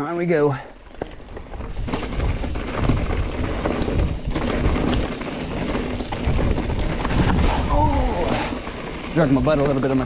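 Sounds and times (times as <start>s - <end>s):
mountain bike rumbling and rattling: 0.0s - 10.0s
wind buffeting microphone: 1.2s - 10.0s.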